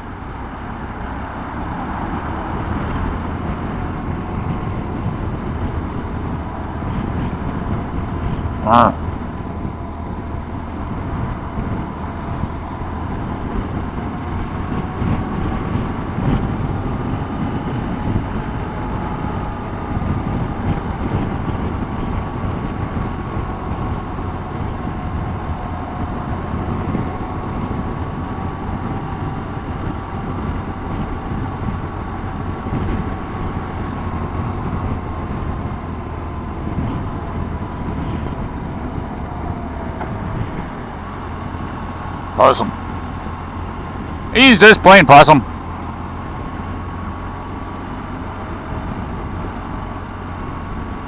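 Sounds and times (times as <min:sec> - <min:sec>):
motorcycle engine riding: 0:00.0 - 0:51.0.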